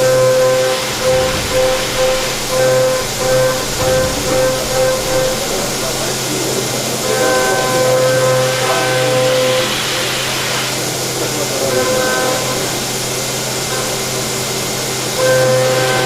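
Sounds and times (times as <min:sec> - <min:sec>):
cutting tool whine: 0:00.0 - 0:16.0
machine hiss and hum: 0:00.0 - 0:16.0.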